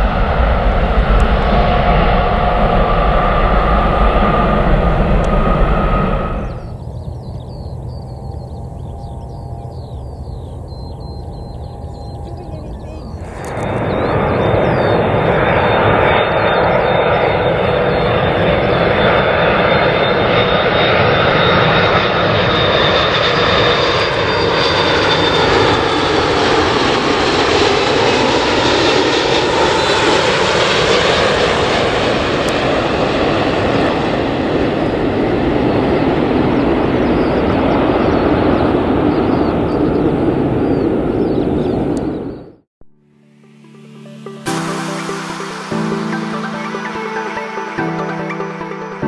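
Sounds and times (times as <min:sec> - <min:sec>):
jet engine roar: 0:00.0 - 0:42.7, 0:43.6 - 0:49.0.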